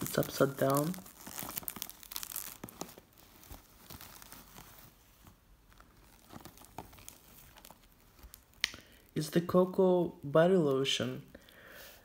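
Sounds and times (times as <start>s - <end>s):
plastic wrap crinkling: 0.0s - 11.4s.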